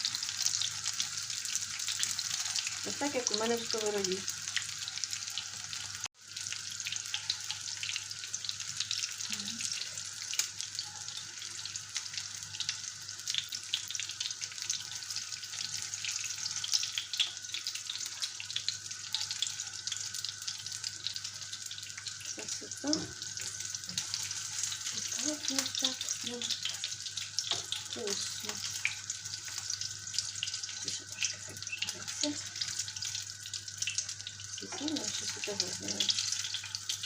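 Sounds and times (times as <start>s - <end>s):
patties sizzling in hot oil: 0.0s - 37.0s.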